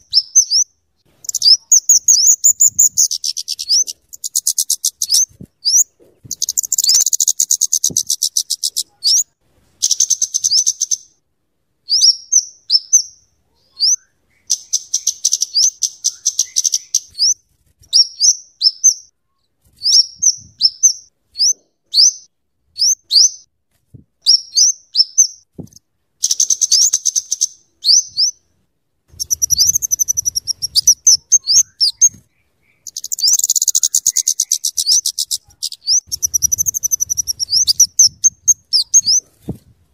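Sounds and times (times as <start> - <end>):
bird ticking trills and chirps: 0.0 - 11.2, 11.9 - 19.1, 19.8 - 23.5, 24.2 - 28.4, 29.1 - 39.4.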